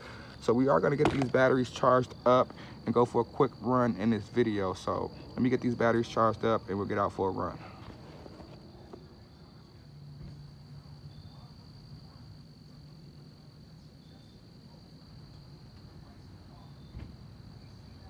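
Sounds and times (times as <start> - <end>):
crickets trilling: 0.0 - 18.0
faint low hum: 0.0 - 18.0.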